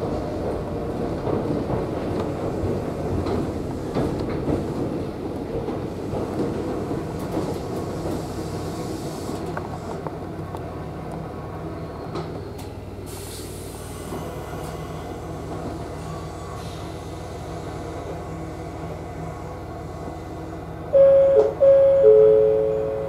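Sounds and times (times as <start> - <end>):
train wheels rumbling and clicking: 0.0 - 21.6.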